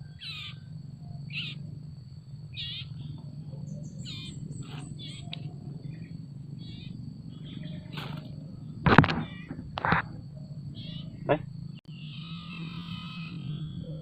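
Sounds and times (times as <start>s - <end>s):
low background hum: 0.0s - 14.0s
small songbird chirping: 0.0s - 14.0s.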